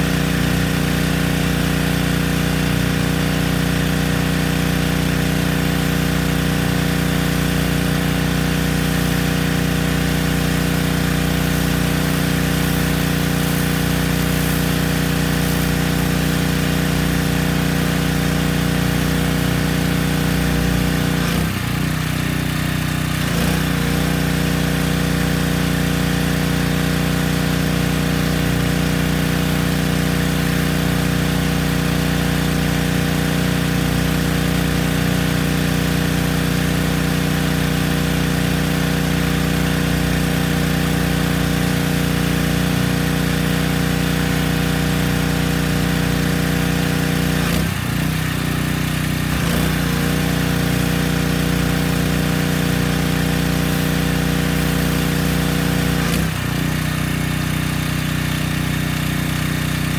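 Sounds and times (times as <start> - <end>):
pressure washer engine running: 0.0 - 59.9.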